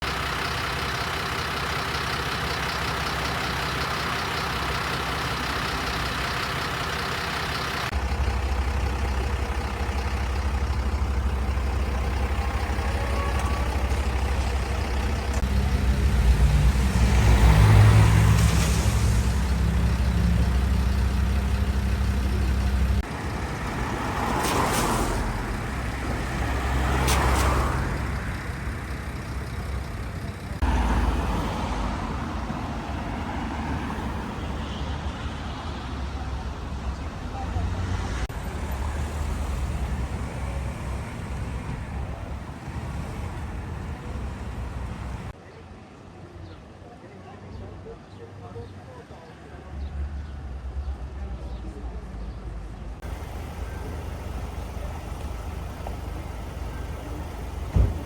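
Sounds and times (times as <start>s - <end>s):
engine rumble: 0.0s - 45.5s, 49.6s - 58.0s
vehicles passing by: 0.0s - 58.0s.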